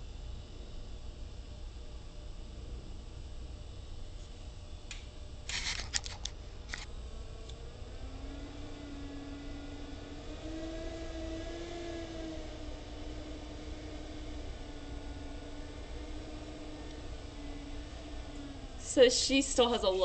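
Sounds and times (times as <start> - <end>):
low room rumble: 0.0 - 20.0
steady hum: 0.0 - 20.0.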